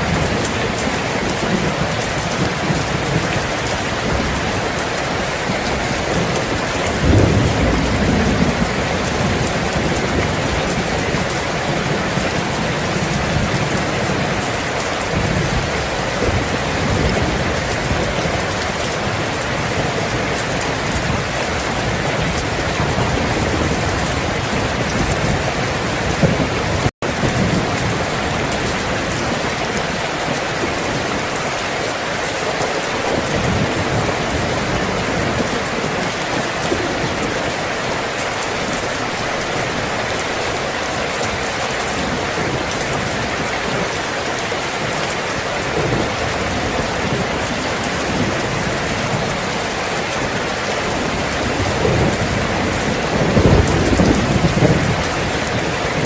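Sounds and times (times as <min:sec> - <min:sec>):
thunder rumbling: 0:00.0 - 0:44.1, 0:44.7 - 0:56.0
heavy rain: 0:00.0 - 0:56.0.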